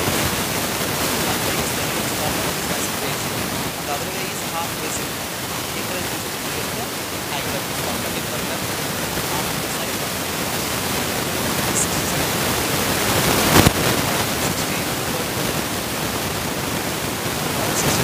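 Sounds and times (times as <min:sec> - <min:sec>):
loud background hiss: 0:00.0 - 0:18.0.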